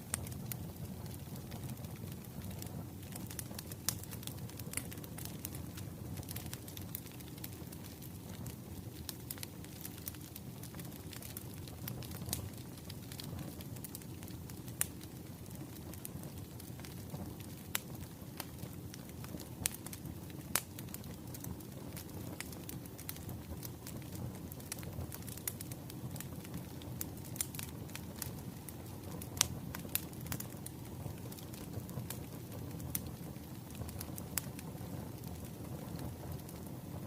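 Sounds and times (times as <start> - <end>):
low fire rumble: 0.0 - 37.0
wood fire crackling and popping: 0.0 - 37.0.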